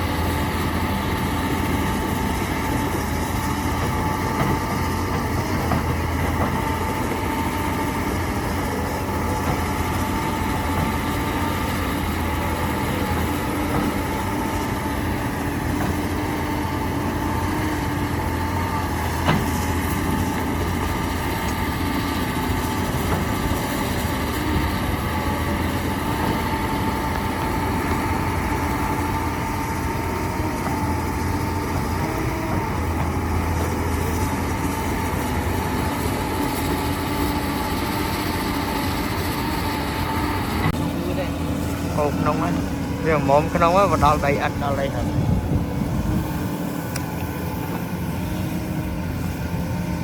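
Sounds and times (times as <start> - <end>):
heavy machinery diesel engine: 0.0 - 50.0.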